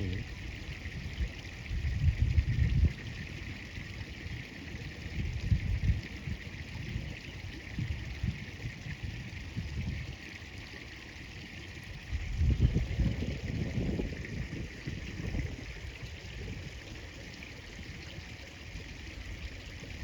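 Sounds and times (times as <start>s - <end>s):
wind buffeting microphone: 0.0s - 10.3s, 11.9s - 20.0s.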